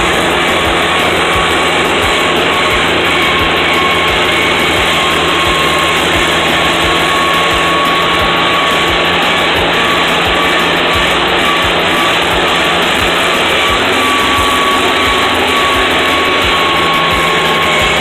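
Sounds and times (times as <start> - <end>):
steady whine: 0.0 - 18.0
tractor engine drone: 0.0 - 18.0.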